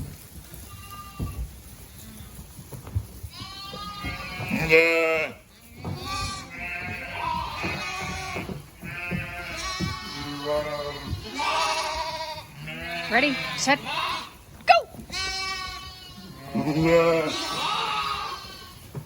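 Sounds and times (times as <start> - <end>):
lambs bleating: 0.5 - 1.4, 3.3 - 14.4, 15.0 - 18.9.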